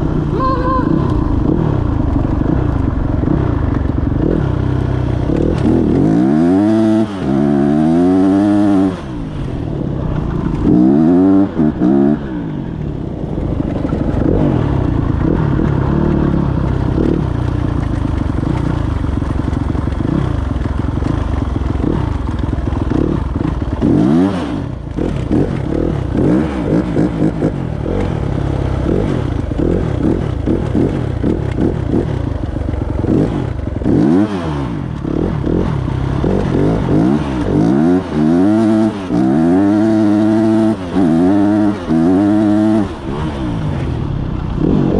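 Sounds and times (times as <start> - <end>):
dirt bike engine revving: 0.0 - 9.5, 10.1 - 12.8, 13.7 - 44.9.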